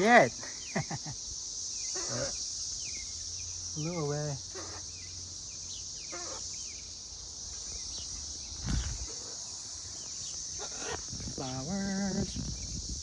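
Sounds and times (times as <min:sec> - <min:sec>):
cicada chorus drone: 0:00.0 - 0:13.0
small birds chirping: 0:00.0 - 0:13.0.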